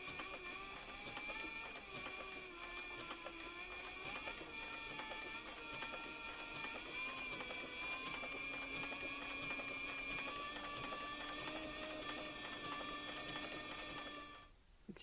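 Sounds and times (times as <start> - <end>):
sewing machine motor whine: 0.0 - 14.5.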